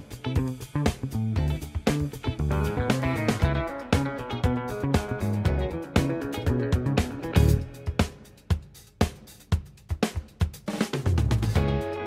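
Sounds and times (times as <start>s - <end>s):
bass and pitched instruments: 0.0s - 9.8s, 11.0s - 12.0s
drum kit beat: 0.0s - 12.0s.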